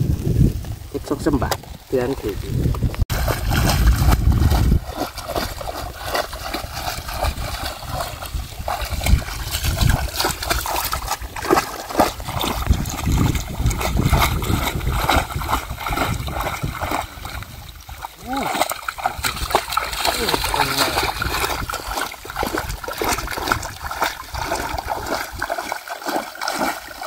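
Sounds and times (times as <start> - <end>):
water splashing and trickling: 0.0 - 27.0
net dragged through water: 3.1 - 27.0.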